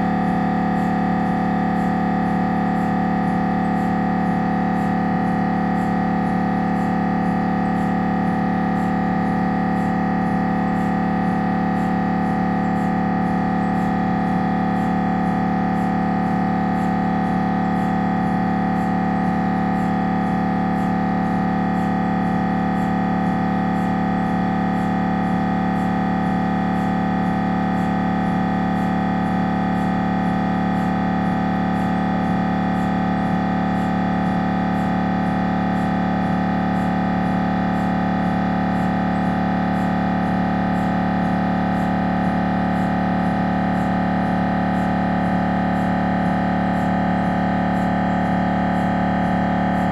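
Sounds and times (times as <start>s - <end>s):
mri scanner droning: 0.0s - 49.9s.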